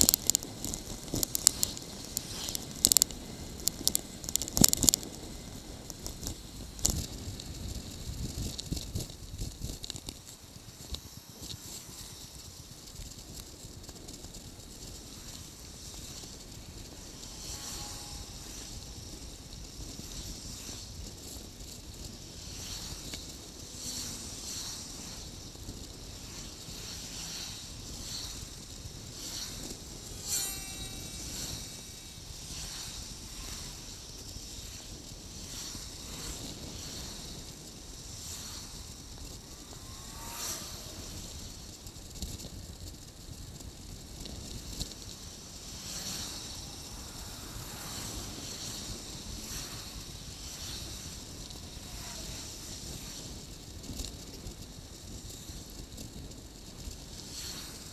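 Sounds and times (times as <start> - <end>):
small rattles and clicks: 0.0 - 57.9
tyre and road noise: 0.0 - 57.9
wind buffeting microphone: 0.0 - 57.9.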